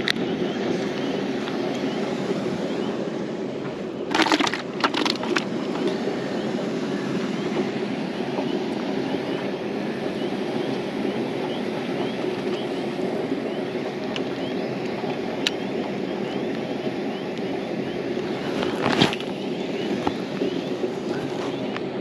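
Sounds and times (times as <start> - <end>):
rushing outdoor noise: 0.0 - 22.0.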